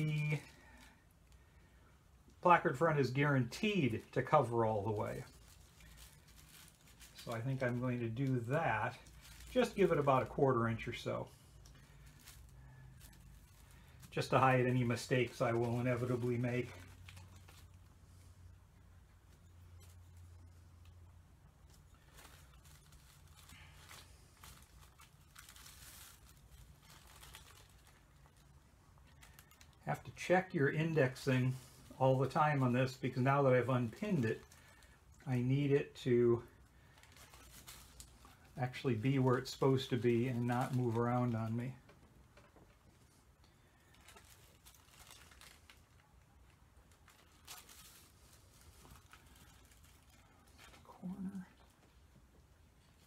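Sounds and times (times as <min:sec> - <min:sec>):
paper rustling and crinkling: 0:02.5 - 0:18.4, 0:19.2 - 0:35.7, 0:36.3 - 0:52.1.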